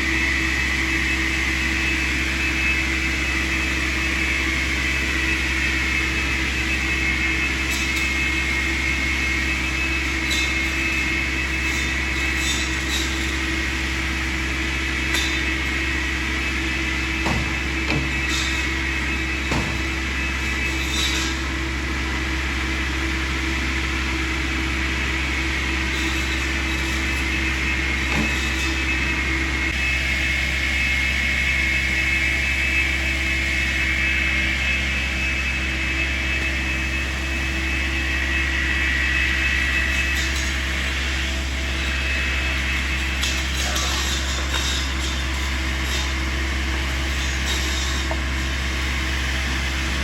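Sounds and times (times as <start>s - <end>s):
high machine whine: 0.0s - 50.0s
low engine drone: 0.0s - 50.0s.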